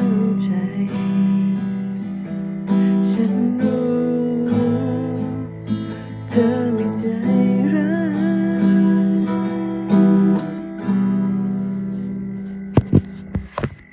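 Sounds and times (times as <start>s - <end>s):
guitar strumming chords: 0.0s - 13.9s.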